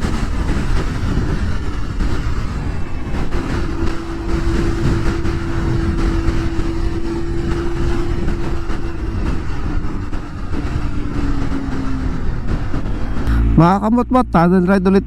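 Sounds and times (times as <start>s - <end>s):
motorcycle engine at high revs: 0.0s - 13.6s
wind rush: 0.0s - 15.0s.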